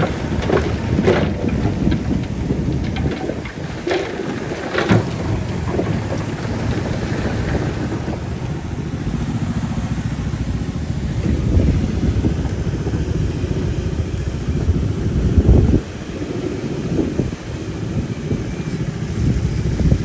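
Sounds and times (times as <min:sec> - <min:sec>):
diesel machinery rumbling: 0:00.0 - 0:20.0.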